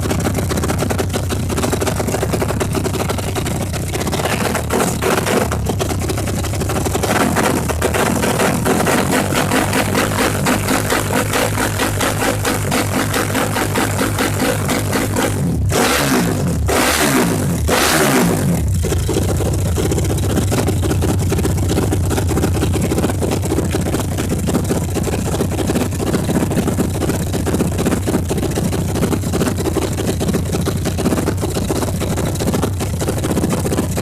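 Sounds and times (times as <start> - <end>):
speedboat engine idling: 0.0 - 15.7, 18.6 - 34.0.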